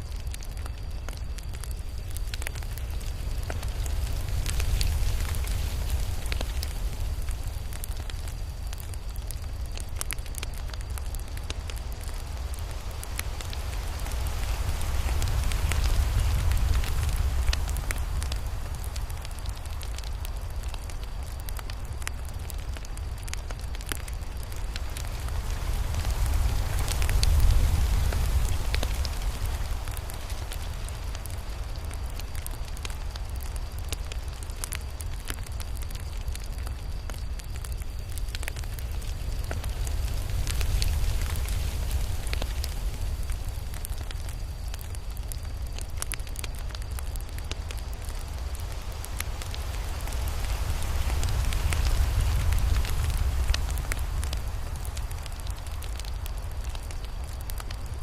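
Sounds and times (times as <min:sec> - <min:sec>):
campfire crackling and popping: 0:00.0 - 0:58.0
low rumble of flames: 0:00.0 - 0:58.0.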